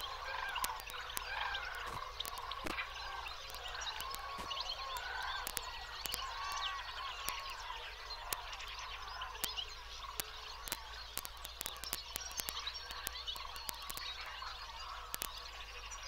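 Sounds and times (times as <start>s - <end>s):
sharp clicks: 0.0s - 16.0s
small birds chirping: 0.0s - 16.0s.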